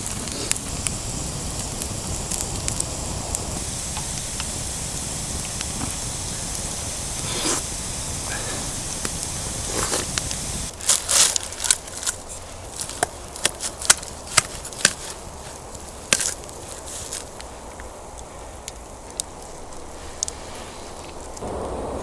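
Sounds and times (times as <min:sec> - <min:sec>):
campfire crackling and popping: 0:00.0 - 0:22.0
low steady hiss: 0:00.0 - 0:22.0.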